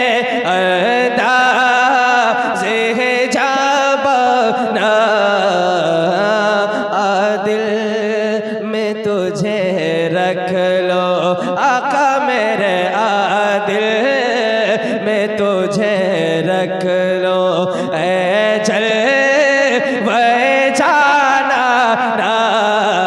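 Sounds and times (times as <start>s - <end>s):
person singing devotional melismatic phrases: 0.0s - 23.0s.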